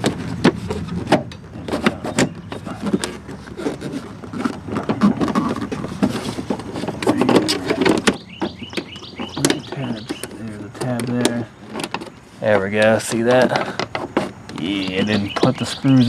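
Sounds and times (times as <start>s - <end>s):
plastic panel clicks and rattles: 0.0s - 16.0s.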